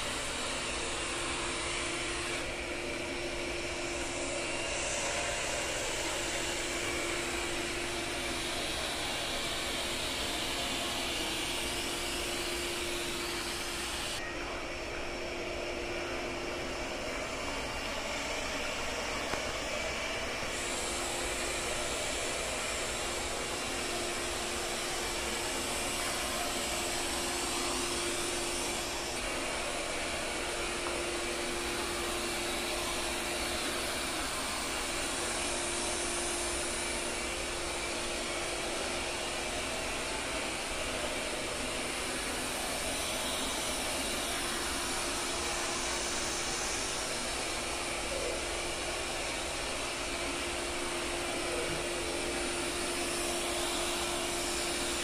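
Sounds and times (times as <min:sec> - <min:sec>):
robot vacuum whirring: 0:00.0 - 0:55.0.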